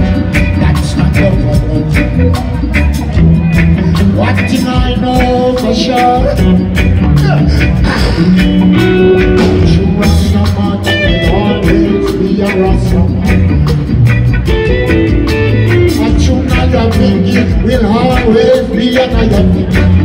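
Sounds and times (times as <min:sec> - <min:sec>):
drum kit strokes: 0:00.0 - 0:20.0
heavy bass line: 0:00.0 - 0:20.0.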